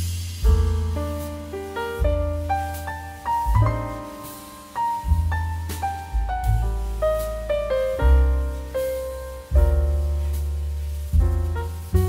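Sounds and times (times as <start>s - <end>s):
deep bass line: 0.0s - 12.0s.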